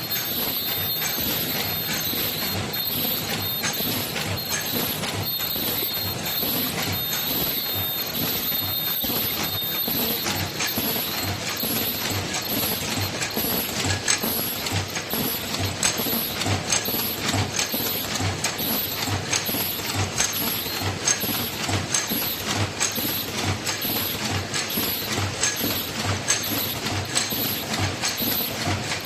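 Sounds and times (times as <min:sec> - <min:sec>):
machine clattering: 0:00.0 - 0:29.0.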